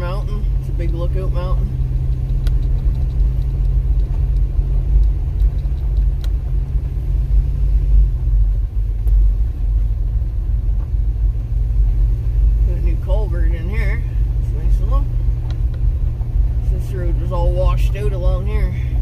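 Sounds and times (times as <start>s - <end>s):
gravel road rumble: 0.0s - 19.0s
truck engine rumble: 0.0s - 19.0s.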